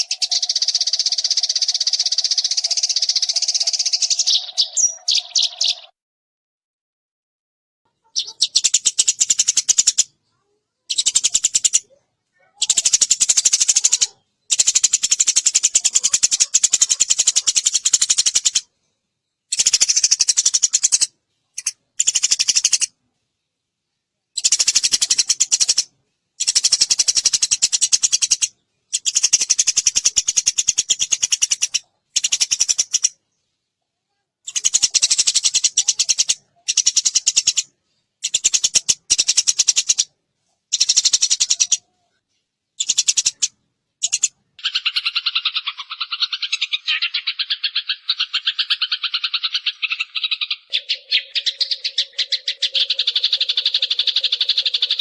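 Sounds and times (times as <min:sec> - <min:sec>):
sparrow chirping fast: 0:00.0 - 0:05.9, 0:08.0 - 0:18.7, 0:19.5 - 0:23.0, 0:24.3 - 0:33.4, 0:34.5 - 0:40.1, 0:40.7 - 0:41.9, 0:42.8 - 0:55.0.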